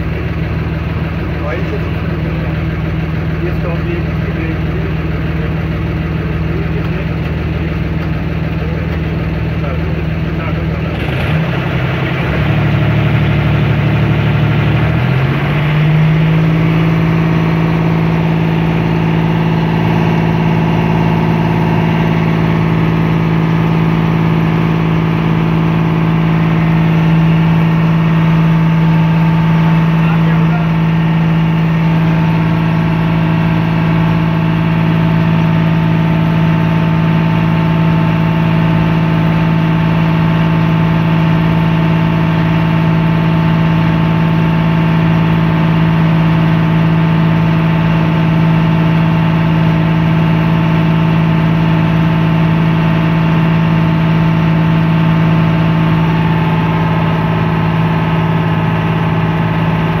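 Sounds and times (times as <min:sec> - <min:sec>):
boat engine humming: 0:00.0 - 1:00.0.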